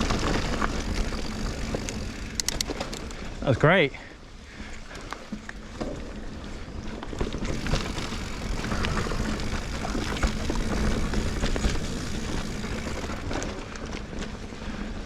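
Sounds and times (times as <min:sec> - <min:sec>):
bike clicks and rattles: 0:00.0 - 0:15.0
bike tyres rolling on dirt: 0:00.0 - 0:15.0.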